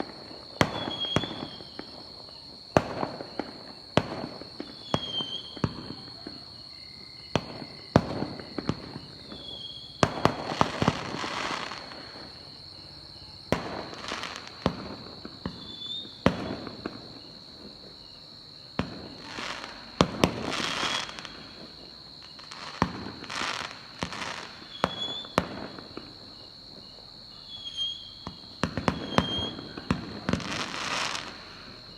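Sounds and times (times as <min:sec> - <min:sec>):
firework crackling: 0:00.0 - 0:06.5, 0:07.3 - 0:26.4, 0:27.5 - 0:31.9
firework bangs: 0:00.0 - 0:06.6, 0:07.2 - 0:26.8, 0:27.5 - 0:31.9.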